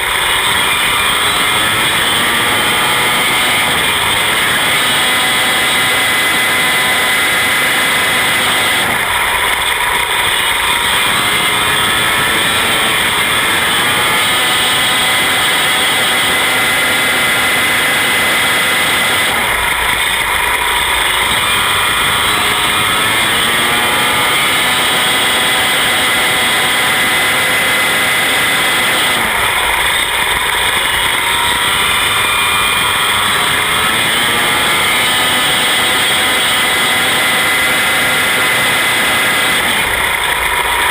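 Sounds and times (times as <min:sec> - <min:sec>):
racing car engine running hard: 0:00.0 - 0:40.9.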